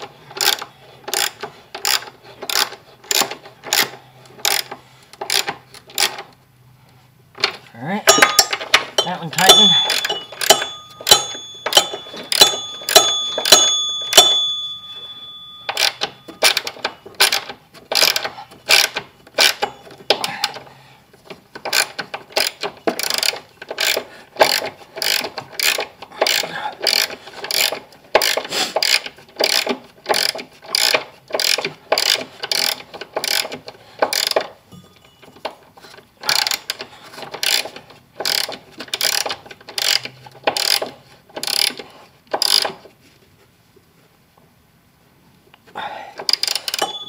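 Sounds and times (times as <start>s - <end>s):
hand ratchet clicking: 0.0s - 6.4s, 7.5s - 20.7s, 21.3s - 34.6s, 35.4s - 42.8s, 46.2s - 47.0s.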